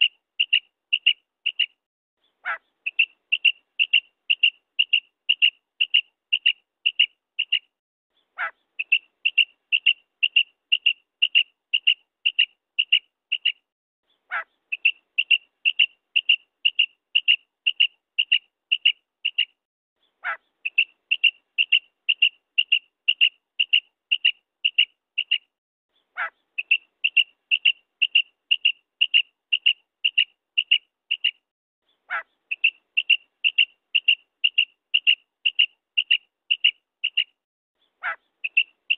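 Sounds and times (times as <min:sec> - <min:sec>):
quail calling: 0:00.0 - 0:01.8, 0:02.4 - 0:07.7, 0:08.4 - 0:13.6, 0:14.3 - 0:19.5, 0:20.2 - 0:25.5, 0:26.1 - 0:31.4, 0:32.1 - 0:37.3, 0:38.0 - 0:38.9.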